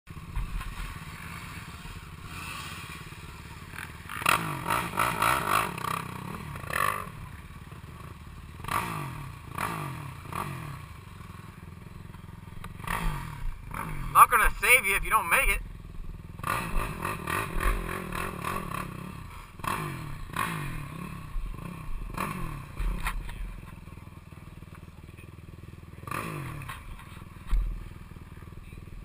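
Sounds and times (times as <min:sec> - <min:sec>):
quad engine idling and revving: 0:00.1 - 0:29.0.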